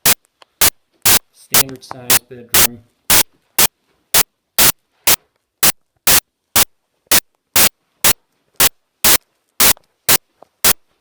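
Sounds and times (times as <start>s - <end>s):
bursts of static hiss: 0.0s - 11.0s.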